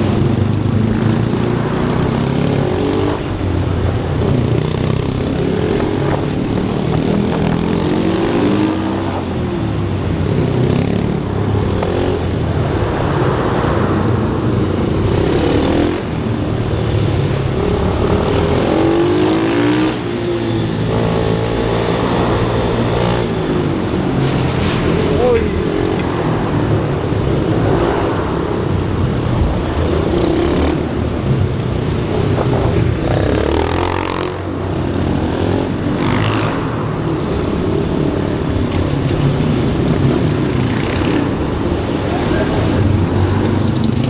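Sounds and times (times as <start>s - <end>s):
pit bike engines revving: 0.0s - 44.0s.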